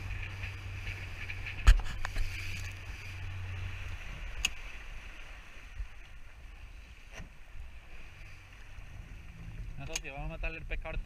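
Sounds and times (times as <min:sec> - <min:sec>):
motorboat engine humming: 0:00.0 - 0:11.0
water and wind noise: 0:00.0 - 0:11.0.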